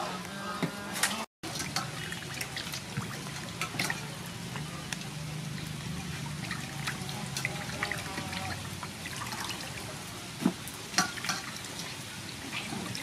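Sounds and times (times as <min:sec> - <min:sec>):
water splashes and drips: 0:01.4 - 0:13.0.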